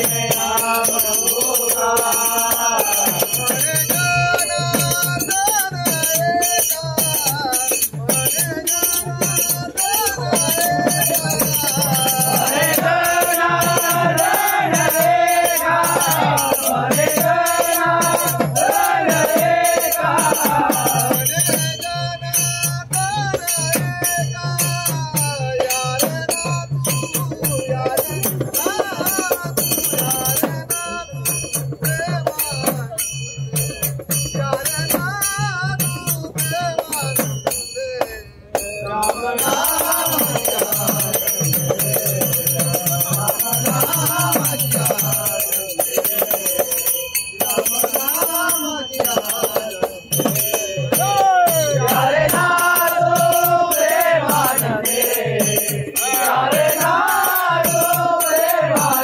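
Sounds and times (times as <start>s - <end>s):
hand percussion beat: 0.0s - 59.0s
jingling metallic percussion: 0.0s - 59.0s
men singing devotional song: 0.0s - 59.0s.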